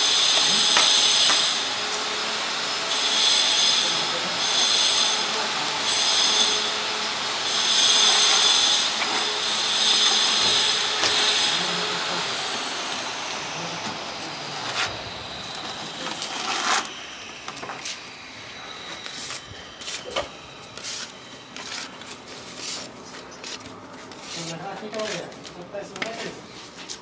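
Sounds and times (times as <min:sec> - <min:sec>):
drill mixer whining: 0:00.0 - 0:22.8.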